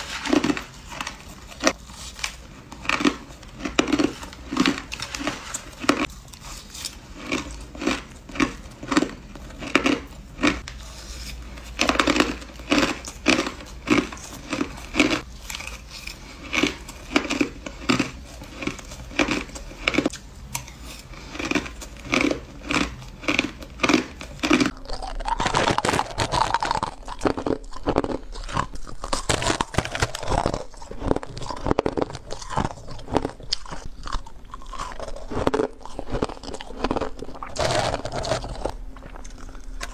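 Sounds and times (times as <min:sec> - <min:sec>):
ice being chewed with crunches: 0:00.0 - 0:39.9.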